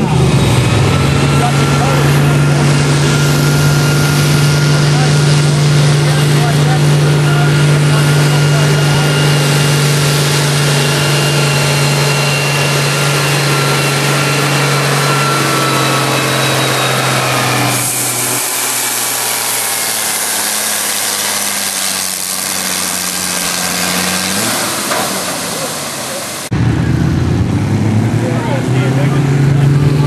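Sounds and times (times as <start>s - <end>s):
tractor engine running under load: 0.0s - 28.0s
quieter engine note: 0.0s - 30.0s.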